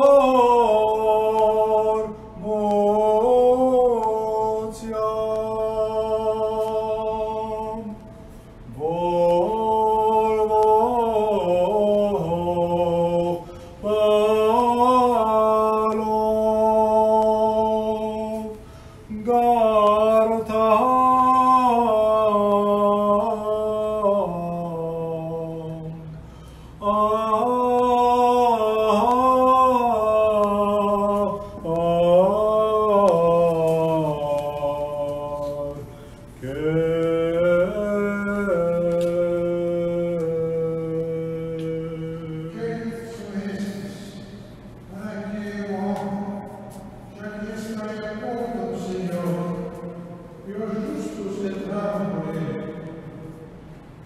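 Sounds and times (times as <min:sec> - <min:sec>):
man chanting a hymn: 0:00.0 - 0:53.6.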